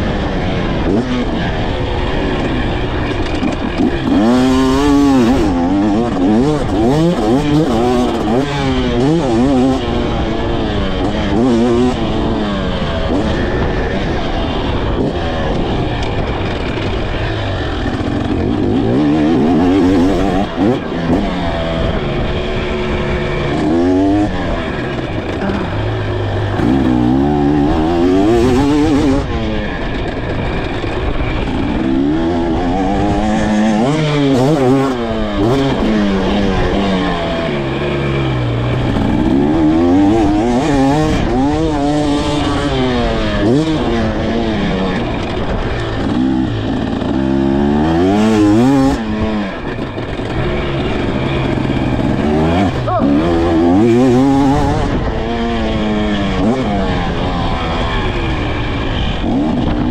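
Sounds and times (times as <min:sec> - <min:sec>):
dirt bike engine accelerating: 0:00.0 - 0:59.9.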